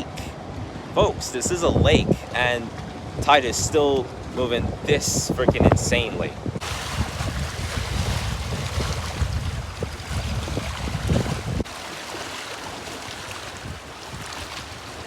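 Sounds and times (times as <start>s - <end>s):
wind buffeting microphone: 0.0s - 11.7s, 13.2s - 15.0s
lake waves washing: 0.0s - 15.0s.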